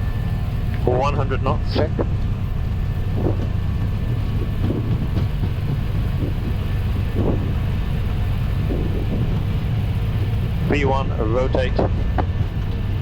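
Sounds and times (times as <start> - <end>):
low rumble of jet engines: 0.0 - 13.0
wheels running on runway: 0.0 - 13.0.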